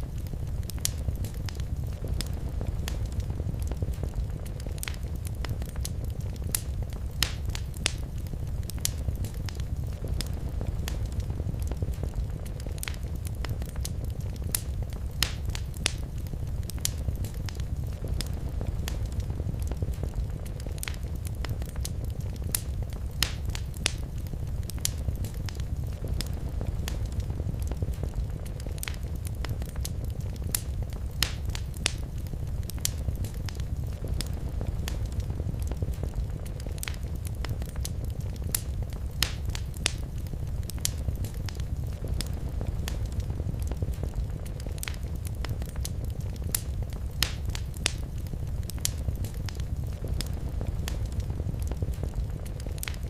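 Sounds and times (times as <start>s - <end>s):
low rumble of flames: 0.0s - 53.0s
wood fire pops and snaps: 0.0s - 53.0s.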